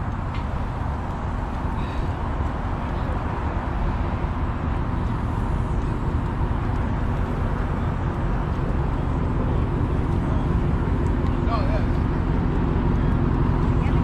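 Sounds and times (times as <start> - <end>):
car engines rumbling: 0.0 - 14.0.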